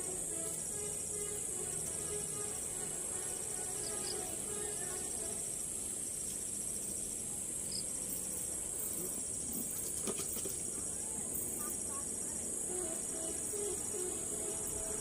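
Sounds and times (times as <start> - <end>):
high-pitched insect chorus: 0.0 - 15.0
insect rapid pulsing trill: 0.0 - 15.0.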